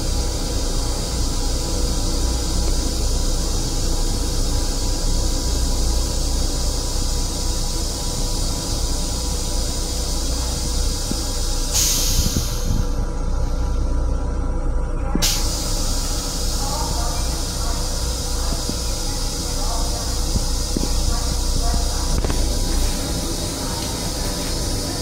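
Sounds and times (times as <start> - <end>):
hiss: 0.0 - 13.0, 15.2 - 25.0
train low rumble: 0.0 - 25.0.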